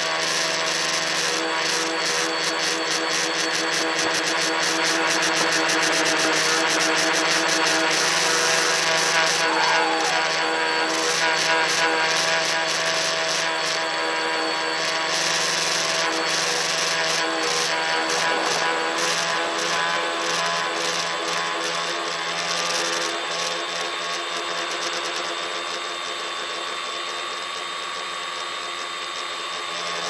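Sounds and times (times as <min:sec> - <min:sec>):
drone motors buzzing: 0:00.0 - 0:30.0.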